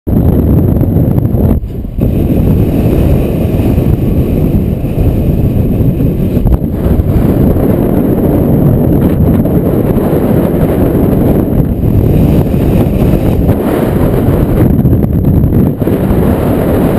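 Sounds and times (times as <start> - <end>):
strong wind blasting microphone: 0.1 - 16.9.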